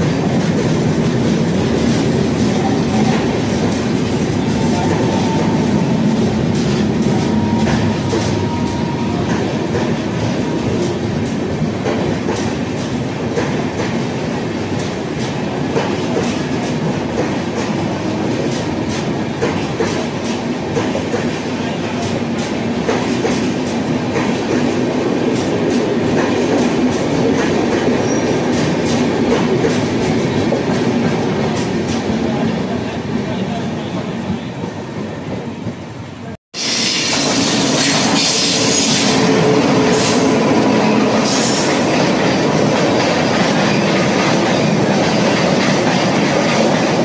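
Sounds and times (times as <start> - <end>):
train wheels clattering on rails: 0.0 - 33.6, 36.6 - 47.0.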